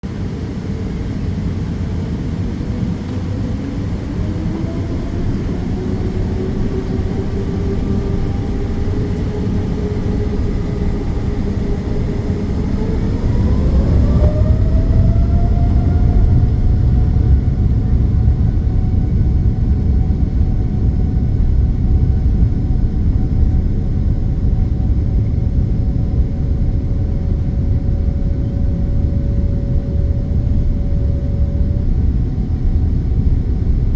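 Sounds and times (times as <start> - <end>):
low rumble of take-off roll: 0.0 - 33.9
jet engines whining: 0.1 - 33.9.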